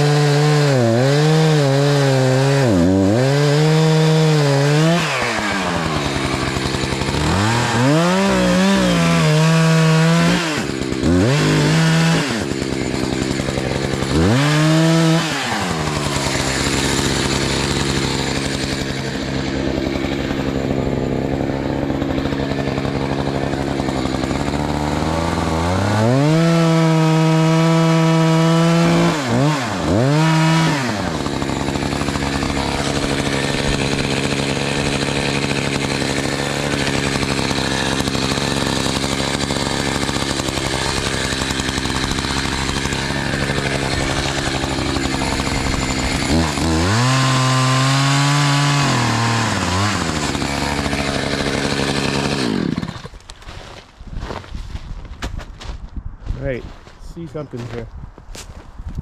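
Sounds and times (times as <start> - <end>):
chainsaw cutting tree trunk: 0.0 - 54.6.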